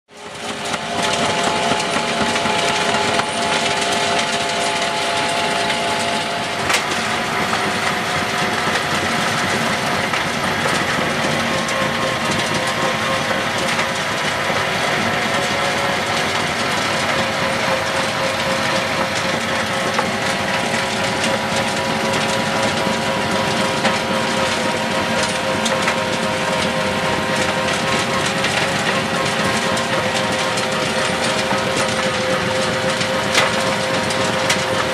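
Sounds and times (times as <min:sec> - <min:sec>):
engine tones: 0:00.1 - 0:34.9
stone crusher din: 0:00.4 - 0:34.9.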